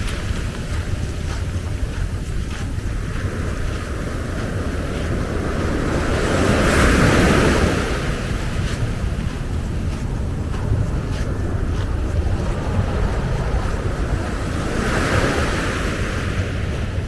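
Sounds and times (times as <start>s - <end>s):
ocean waves breaking on beach: 0.0s - 17.0s
wind rumbling on microphone: 0.0s - 17.0s.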